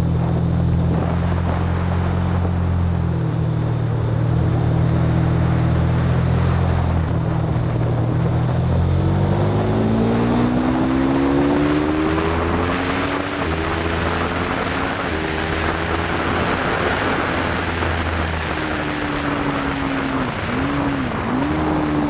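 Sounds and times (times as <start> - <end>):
motorcycle engine accelerating: 0.0 - 22.0
wind over microphone: 0.0 - 22.0.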